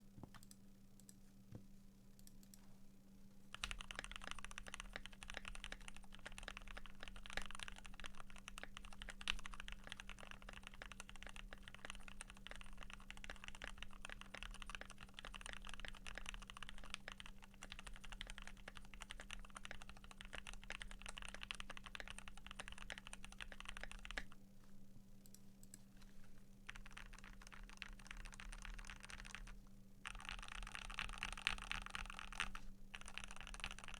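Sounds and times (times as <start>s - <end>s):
fast mechanical keyboard typing: 3.5s - 24.4s, 26.7s - 33.9s.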